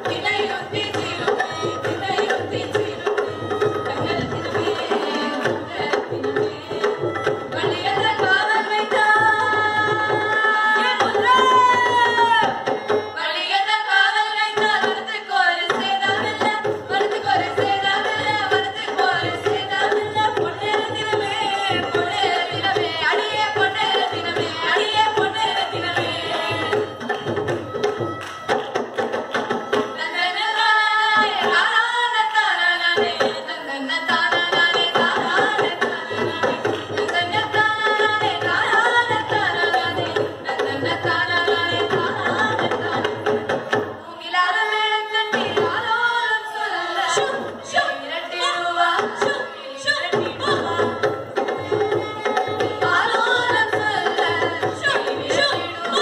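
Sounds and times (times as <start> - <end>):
group of voices singing: 0.0 - 27.5, 29.4 - 56.0.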